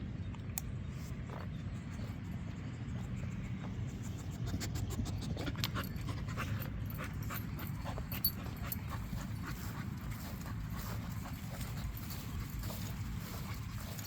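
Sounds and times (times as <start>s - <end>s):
steady low rumble: 0.0s - 14.0s
dog panting: 1.9s - 14.0s.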